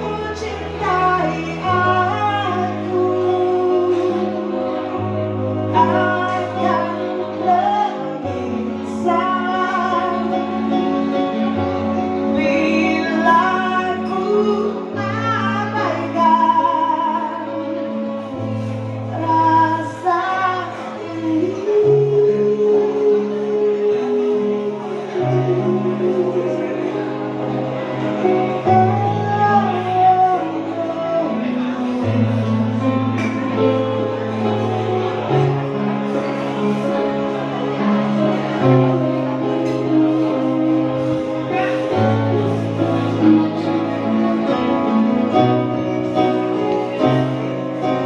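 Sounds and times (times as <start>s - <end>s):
woman singing into microphone: 0.0s - 37.2s, 38.0s - 48.0s
guitar: 0.0s - 48.0s.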